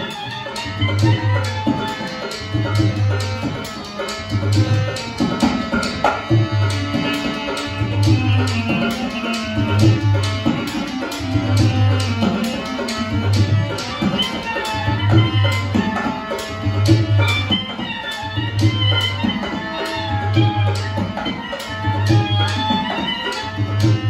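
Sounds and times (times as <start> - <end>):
hand drum rhythm: 0.0 - 24.0.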